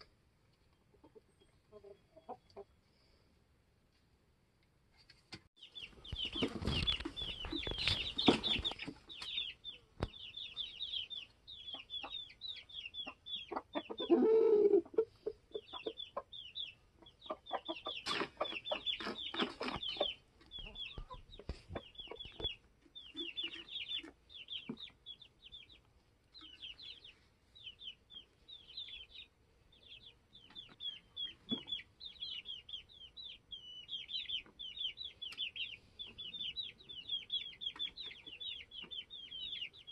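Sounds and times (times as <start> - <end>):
chickens clucking: 0.0 - 2.9, 5.6 - 39.9
chicks peeping: 5.6 - 39.9.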